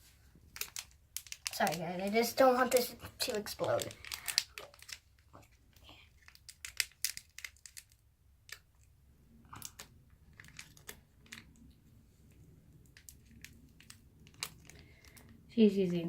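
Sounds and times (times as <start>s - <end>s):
plastic container clicks and crinkles: 0.5s - 8.9s, 9.5s - 11.7s, 12.3s - 15.4s.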